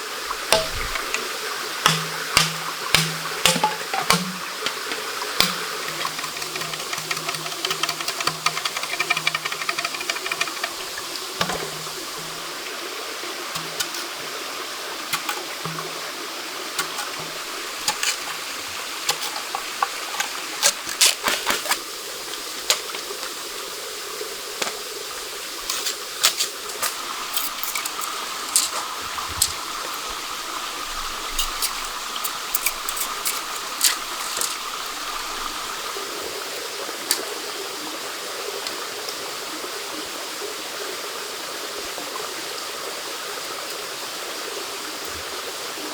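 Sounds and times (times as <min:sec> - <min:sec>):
stream rushing: 0:00.0 - 0:45.9.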